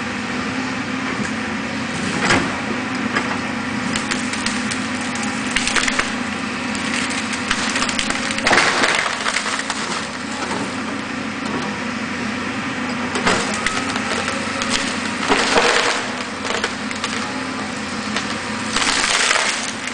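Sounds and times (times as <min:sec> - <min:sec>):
excavator diesel engine running: 0:00.0 - 0:19.9
tree cracking and splintering: 0:02.0 - 0:11.8, 0:13.1 - 0:19.9.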